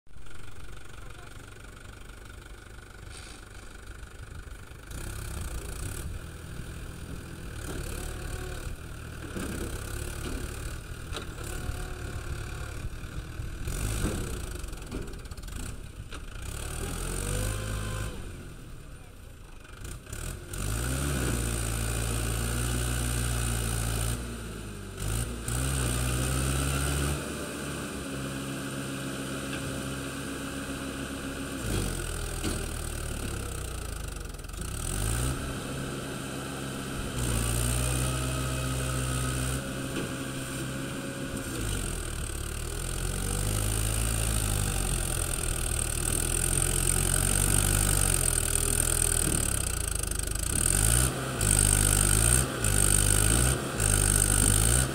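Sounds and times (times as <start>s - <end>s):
tractor diesel engine running: 0.1s - 54.9s.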